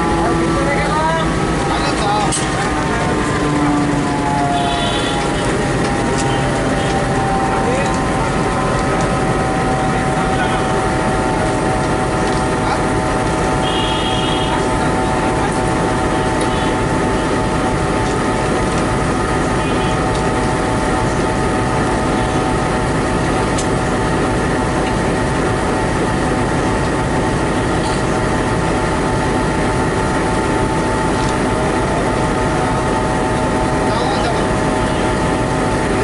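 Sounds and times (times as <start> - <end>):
high whine: 0.0 - 36.0
locomotive drone: 0.0 - 36.0.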